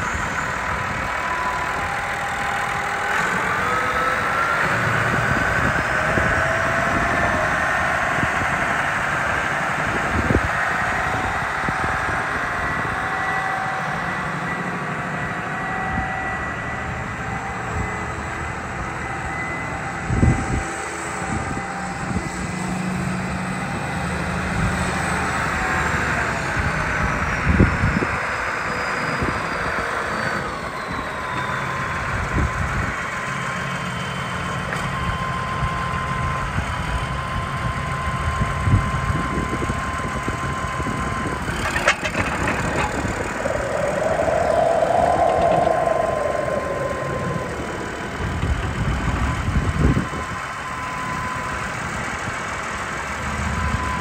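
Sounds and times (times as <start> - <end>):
high whine: 0.0 - 54.0
tractor diesel engine: 0.0 - 54.0.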